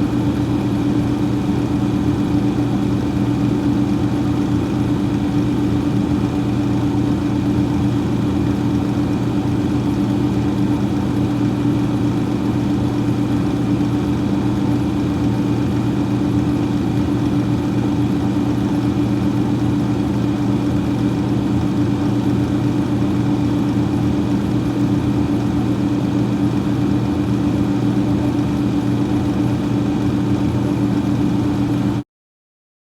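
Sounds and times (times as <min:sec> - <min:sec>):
freezer fan whirring: 0:00.0 - 0:32.0.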